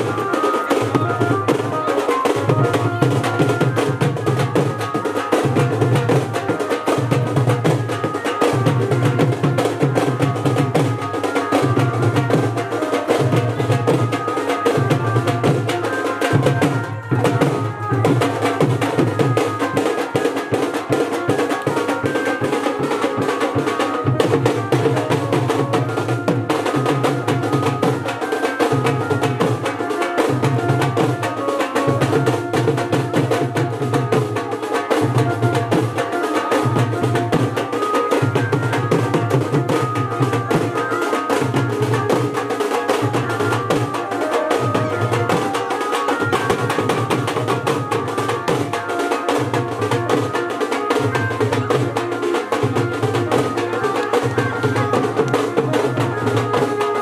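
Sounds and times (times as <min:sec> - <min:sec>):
music with repeating drum beat: 0:00.0 - 0:57.0.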